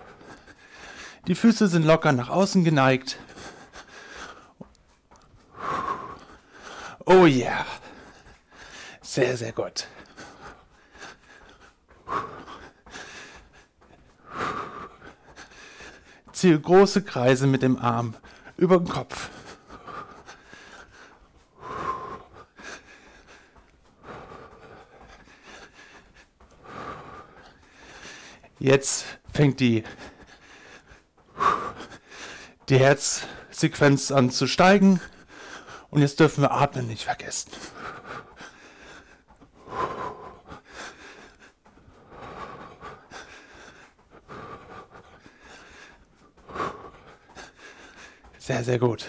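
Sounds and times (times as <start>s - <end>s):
man breathing: 0.0s - 49.0s.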